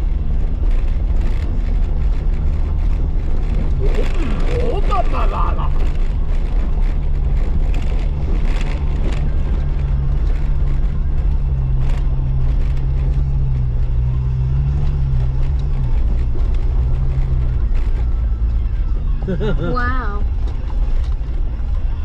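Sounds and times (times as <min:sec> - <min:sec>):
knocks and rattles over rocks: 0:00.0 - 0:18.9
car engine running under load: 0:00.0 - 0:22.0.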